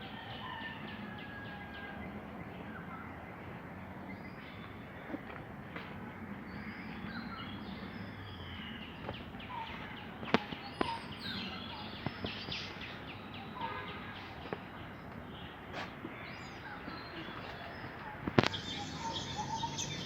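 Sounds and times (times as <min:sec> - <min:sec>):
small birds chirping: 0:01.6 - 0:20.0
outdoor background hiss: 0:02.1 - 0:20.0.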